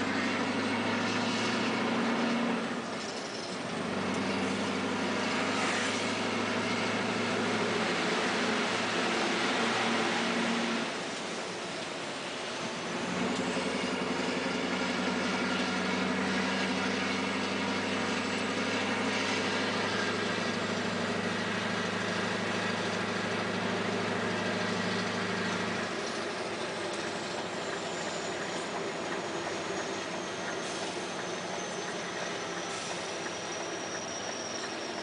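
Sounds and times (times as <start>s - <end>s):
diesel truck engine drone: 0.0s - 35.0s.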